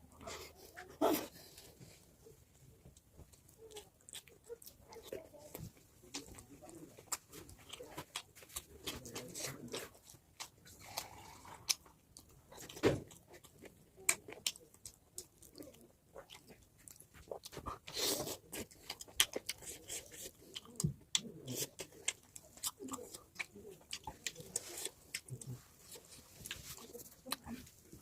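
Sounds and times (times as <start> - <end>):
person chewing: 2.9 - 28.0.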